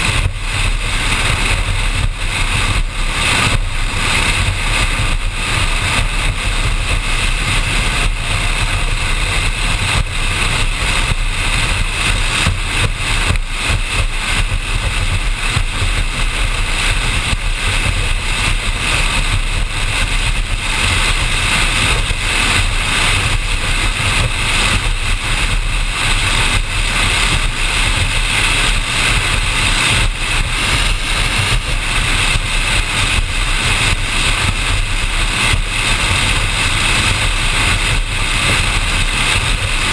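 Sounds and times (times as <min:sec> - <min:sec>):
powerboat engines droning: 0:00.0 - 0:39.9
rush of wind and water: 0:00.0 - 0:39.9.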